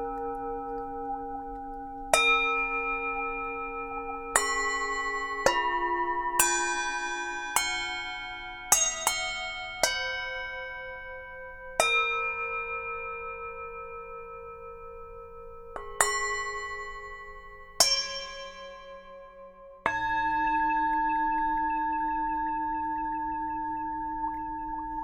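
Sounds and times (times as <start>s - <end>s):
singing bowls ringing: 0.0s - 25.0s.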